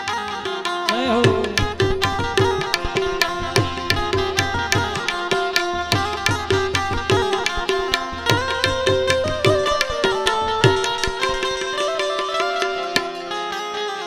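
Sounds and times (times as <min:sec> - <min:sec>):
hand drums rhythm: 0:00.9 - 0:13.4
sustained melody notes: 0:01.5 - 0:14.0.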